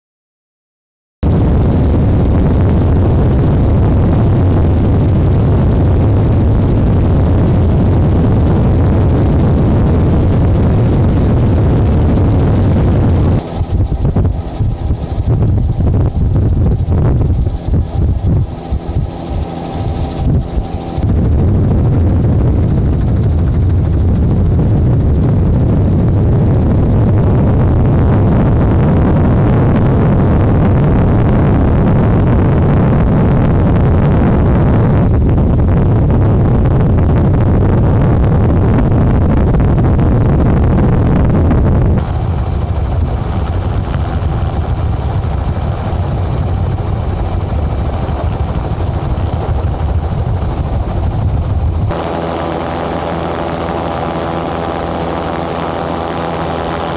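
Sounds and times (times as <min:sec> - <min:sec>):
helicopter rotor and engine: 0:01.2 - 0:56.9.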